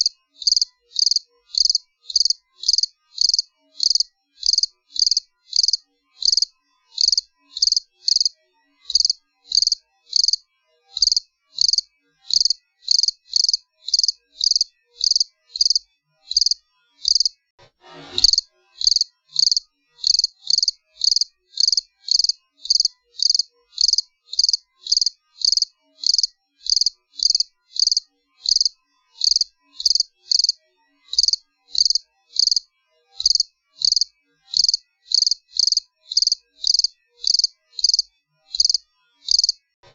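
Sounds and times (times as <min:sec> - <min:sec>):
cricket chirping: 0:00.0 - 0:08.3, 0:08.9 - 0:10.4, 0:11.0 - 0:17.3, 0:18.2 - 0:32.6, 0:33.2 - 0:39.6.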